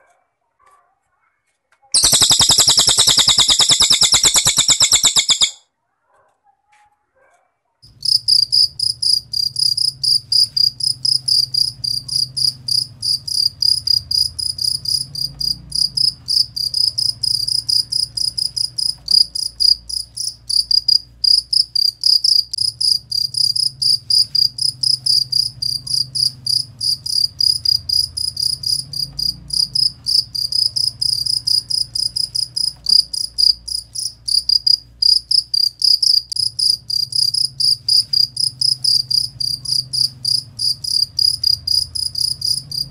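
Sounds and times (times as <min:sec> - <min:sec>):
cricket chirping: 0:02.0 - 0:05.6, 0:07.9 - 0:42.9
faint low hum: 0:07.9 - 0:42.9.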